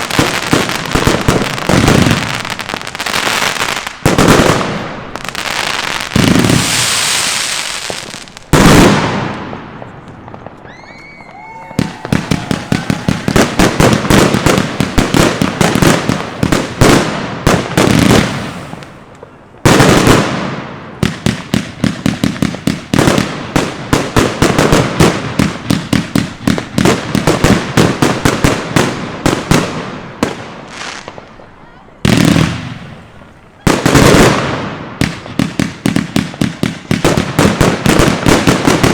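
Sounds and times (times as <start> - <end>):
firework bangs: 0.0 - 38.9.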